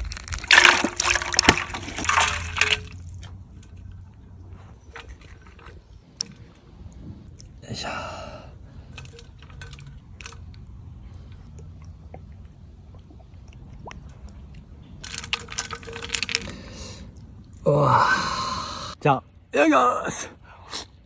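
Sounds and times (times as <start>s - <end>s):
low background rumble: 0.0s - 19.6s.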